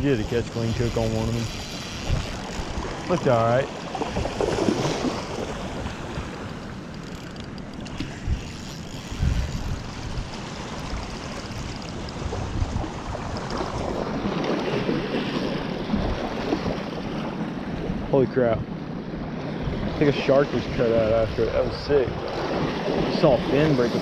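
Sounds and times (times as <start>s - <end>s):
wind blowing across microphone: 0.0s - 6.8s, 7.9s - 24.0s
water and small waves: 0.0s - 24.0s.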